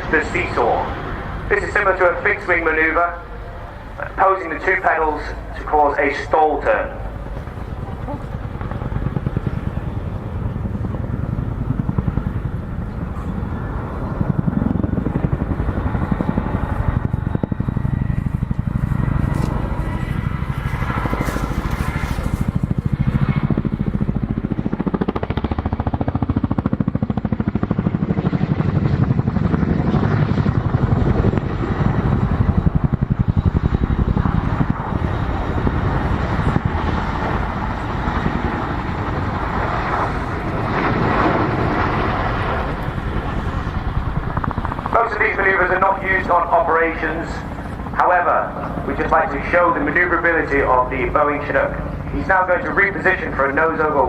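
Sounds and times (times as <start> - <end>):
helicopter rotors beating: 0.0 - 54.0
turbine whine: 0.0 - 54.0.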